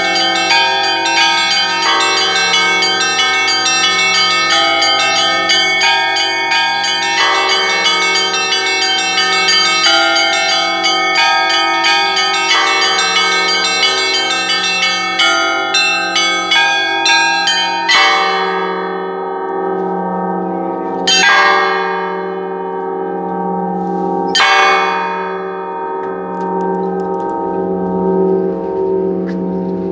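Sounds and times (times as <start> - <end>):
deep bell ringing tones: 0.0 - 29.9
fast peal of church bells: 0.0 - 29.9.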